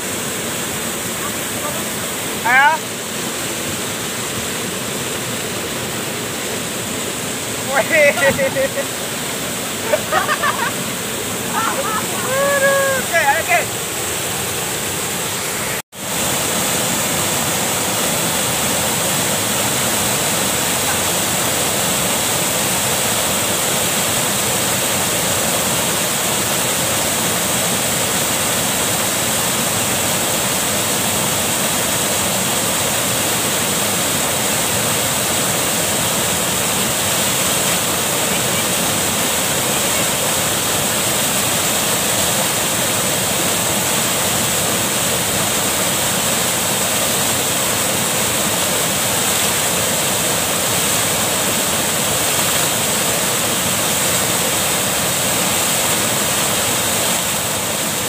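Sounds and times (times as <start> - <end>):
waterfall pouring into pool: 0.0 - 58.0.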